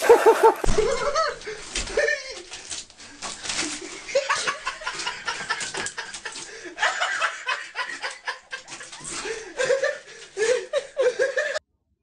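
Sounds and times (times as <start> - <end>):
person laughing: 0.0 - 11.6.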